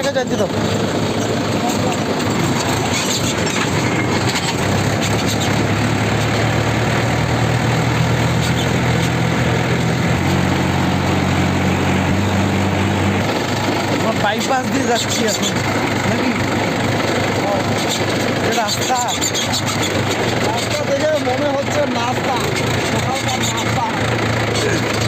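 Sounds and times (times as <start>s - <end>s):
road and wind noise: 0.0s - 25.0s
tractor diesel engine running: 0.0s - 25.0s.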